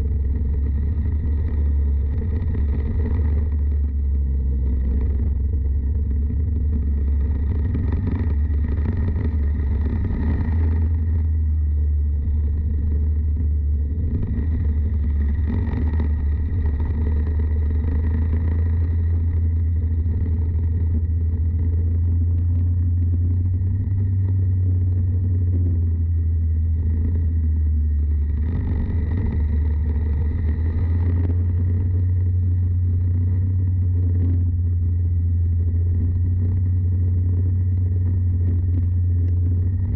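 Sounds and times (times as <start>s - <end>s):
racing kart engines rumbling: 0.0s - 39.9s.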